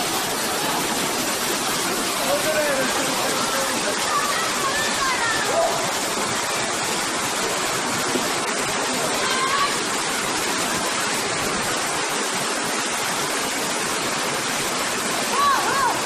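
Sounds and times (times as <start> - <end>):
rushing flowing water: 0.0 - 16.0.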